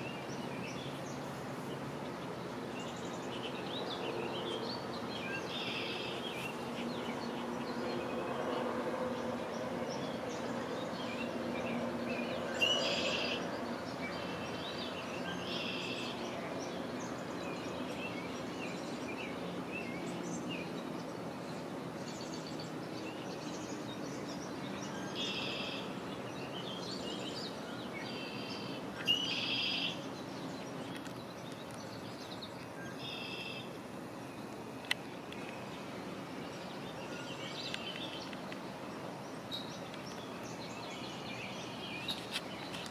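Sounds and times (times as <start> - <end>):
birds calling: 0.0 - 42.9
outdoor background noise: 0.0 - 42.9.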